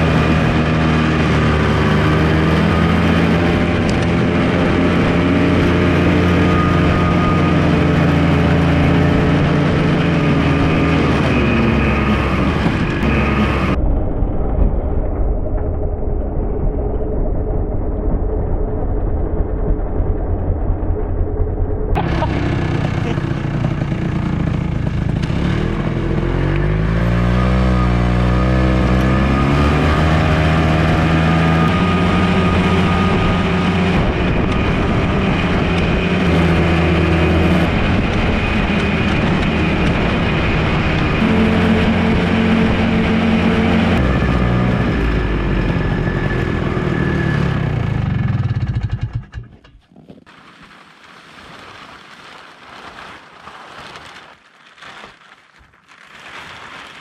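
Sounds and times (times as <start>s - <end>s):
snowmobile engine: 0.0s - 13.9s, 17.3s - 54.1s.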